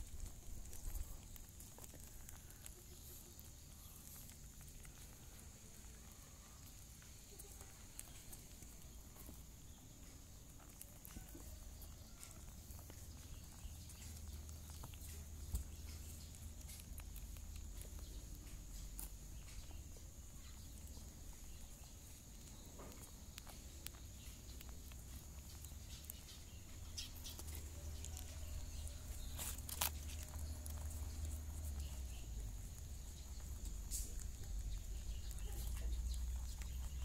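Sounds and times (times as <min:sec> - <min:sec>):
clicks and rustles on a mat: 0:06.7 - 0:37.0.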